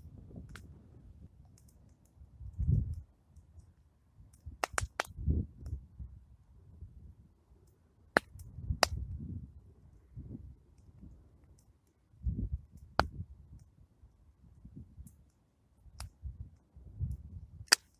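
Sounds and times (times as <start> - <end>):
campfire crackling and popping: 0.0 - 5.9, 7.5 - 9.3, 9.9 - 17.9.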